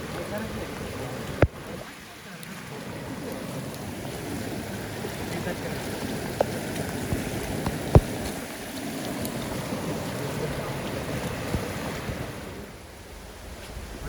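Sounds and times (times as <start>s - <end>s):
floodwater rushing: 0.0s - 14.0s
wind: 0.0s - 14.0s.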